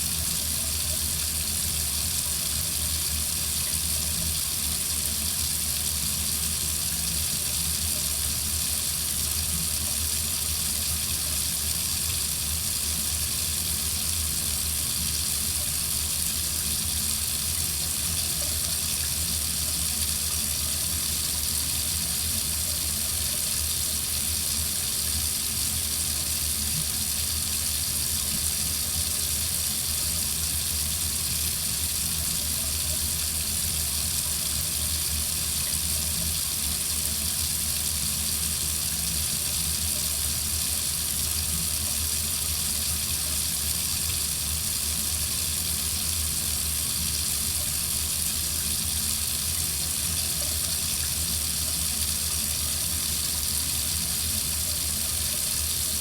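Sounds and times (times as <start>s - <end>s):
faucet running into sink: 0.0s - 56.0s.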